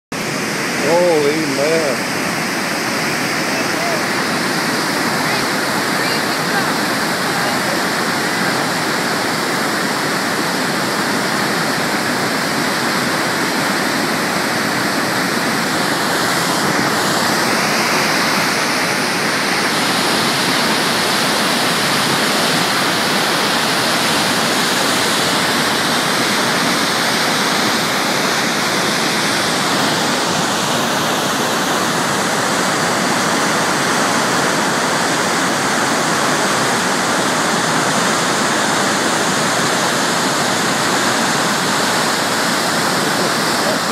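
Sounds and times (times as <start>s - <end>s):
water rushing down spillway: 0.1s - 43.9s.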